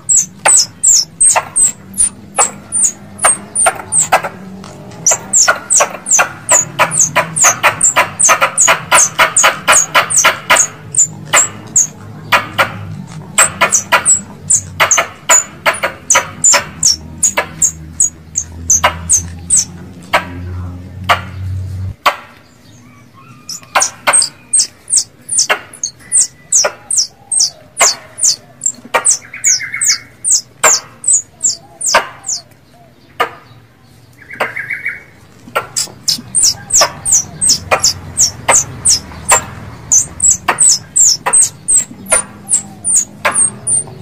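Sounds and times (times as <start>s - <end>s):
squirrel calls high chirps: 0.0s - 4.2s, 5.0s - 12.0s, 13.4s - 19.7s, 22.9s - 32.5s, 35.6s - 44.0s.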